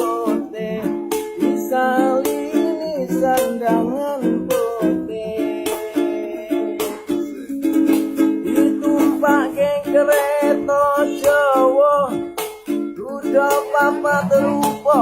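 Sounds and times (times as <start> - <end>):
ukulele strumming with melody: 0.0 - 15.0.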